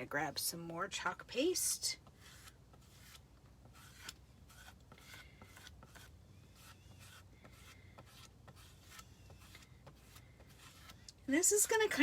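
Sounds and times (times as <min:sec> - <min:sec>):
squeegee scraping over stencil: 0:01.6 - 0:12.0.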